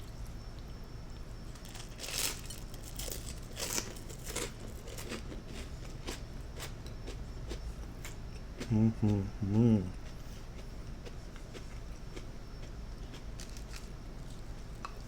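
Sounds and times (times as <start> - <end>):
crisp chewing crunches: 1.5 - 15.0.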